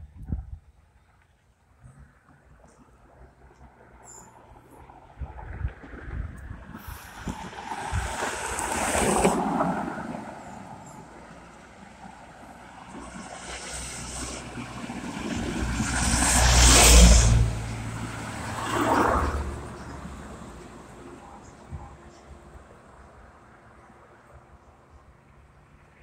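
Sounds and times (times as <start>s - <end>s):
cars passing on paved road: 0.0s - 26.0s.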